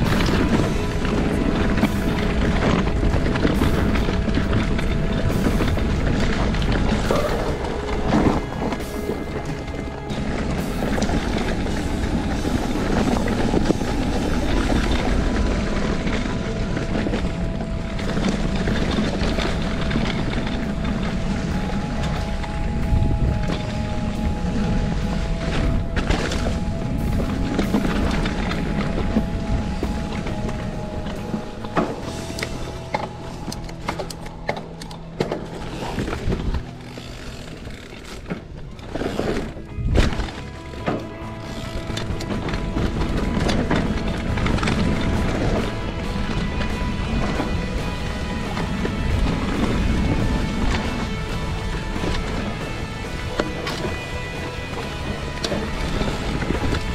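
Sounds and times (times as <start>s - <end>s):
steady low rumble: 0.0s - 56.9s
steady low tone: 0.0s - 56.9s
wind buffeting microphone: 0.0s - 56.9s.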